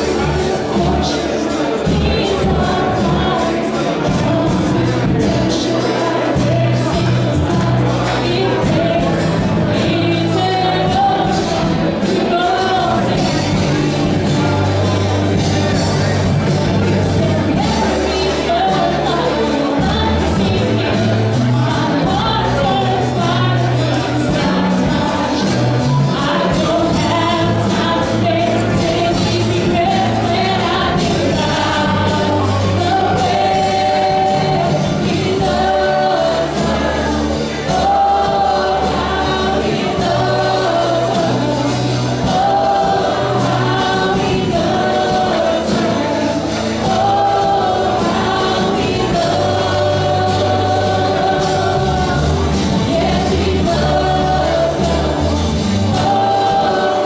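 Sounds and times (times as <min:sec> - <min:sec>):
band with bass and drums: 0:00.0 - 0:57.0
group singing praise song: 0:00.0 - 0:57.0.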